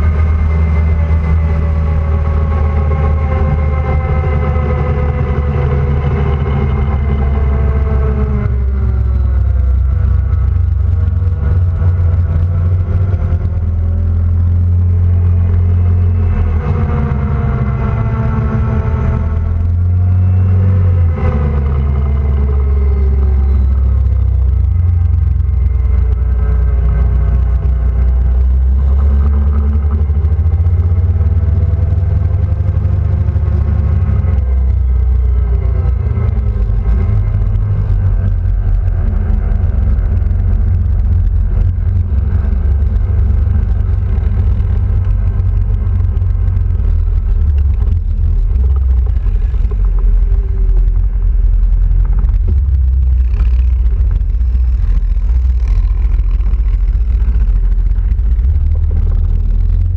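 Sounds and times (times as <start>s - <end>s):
heavy low rumble: 0.0s - 59.9s
quad bike engine running: 0.0s - 59.9s.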